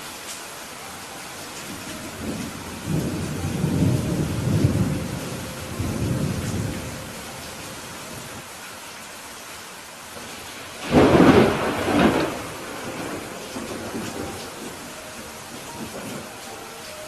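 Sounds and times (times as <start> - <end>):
steady rain falling: 0.0 - 17.0
thunder rumbling: 1.4 - 8.4, 10.2 - 17.0.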